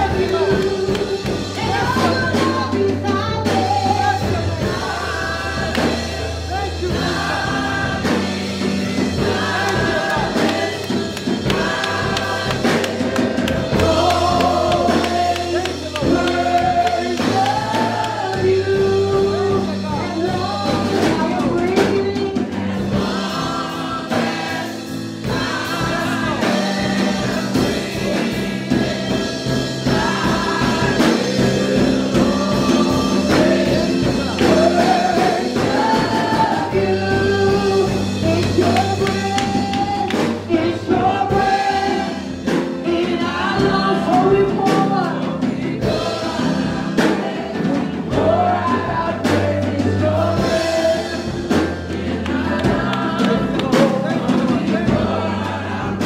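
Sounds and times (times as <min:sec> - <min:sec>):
bass line: 0:00.0 - 0:56.0
drum kit beat: 0:00.0 - 0:56.0
live band playing: 0:00.0 - 0:56.0
person singing gospel song: 0:00.0 - 0:56.0.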